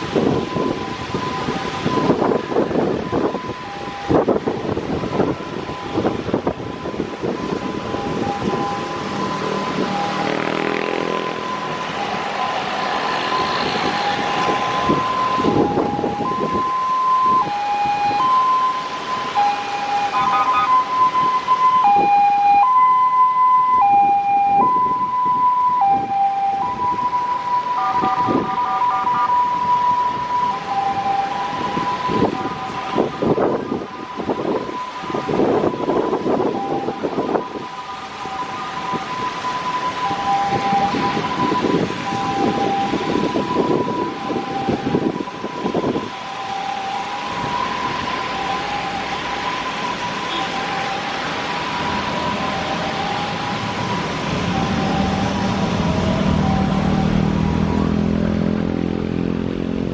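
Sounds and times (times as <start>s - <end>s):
passing motorcycle and car traffic: 0.0s - 59.9s
two-tone siren wailing: 0.0s - 59.9s.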